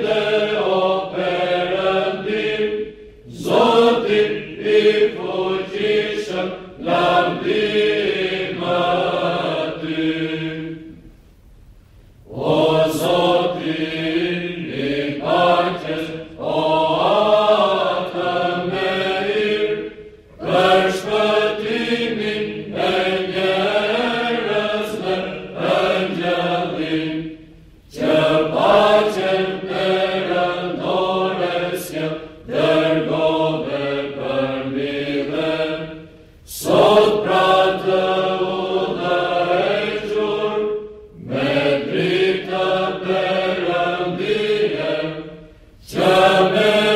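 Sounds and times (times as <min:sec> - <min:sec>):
mixed choir chanting a cappella: 0:00.0 - 0:11.1, 0:12.2 - 0:46.9.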